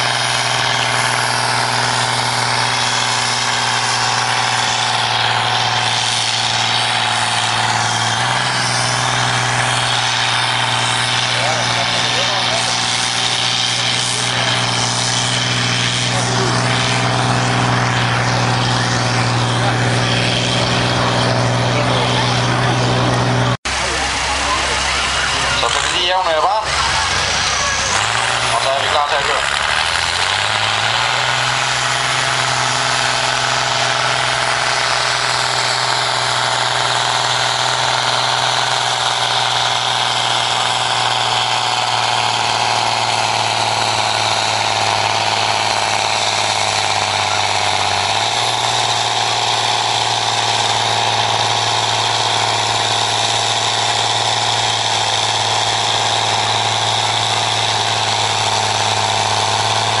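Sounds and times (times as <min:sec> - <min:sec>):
tractor diesel engine under load: 0:00.0 - 1:00.0.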